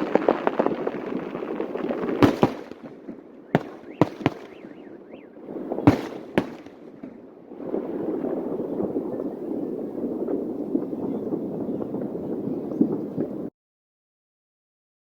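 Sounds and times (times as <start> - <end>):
fireworks crackling and banging: 0.0 - 13.4.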